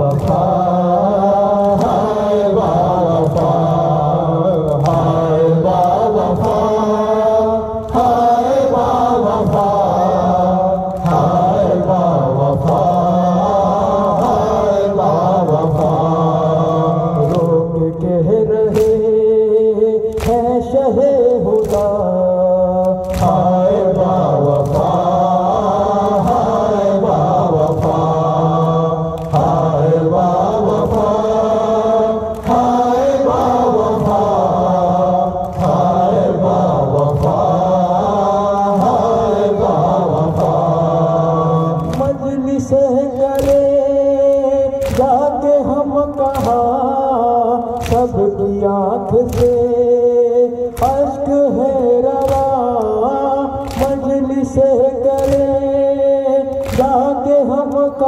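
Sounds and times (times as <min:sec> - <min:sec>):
men chanting in unison: 0:00.0 - 0:58.0.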